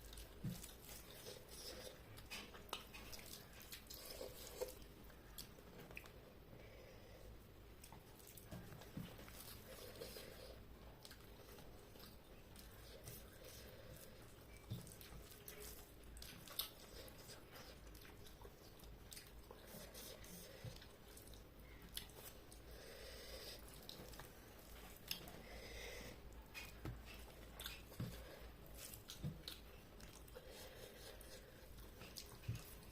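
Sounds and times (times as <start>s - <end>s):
person chewing food: 0.0s - 6.3s, 7.7s - 32.9s.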